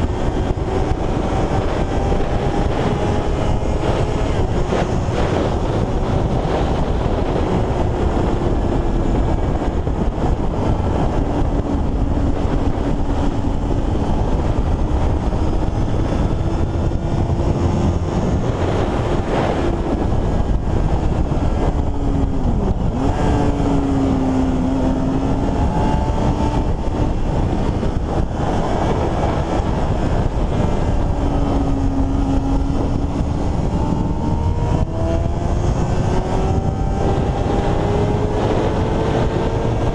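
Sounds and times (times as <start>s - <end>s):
superbike engines revving: 0.0s - 39.9s
wind noise on microphone: 0.0s - 39.9s.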